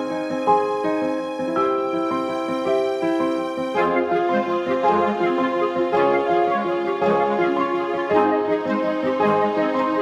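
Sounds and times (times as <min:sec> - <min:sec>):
soft sad piano melody: 0:00.0 - 0:10.0.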